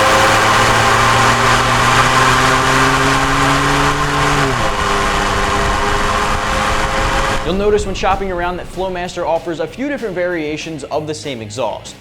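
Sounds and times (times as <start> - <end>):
loud truck engine running: 0.0 - 10.3.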